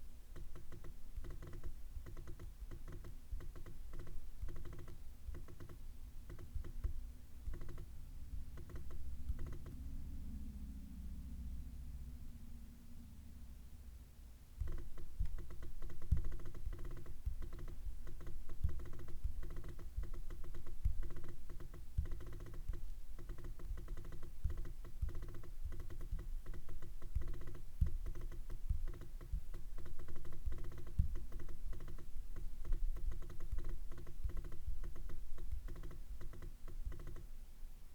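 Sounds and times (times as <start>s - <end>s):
fingers clicking and tapping trackpad: 0.0s - 9.8s, 14.6s - 37.4s.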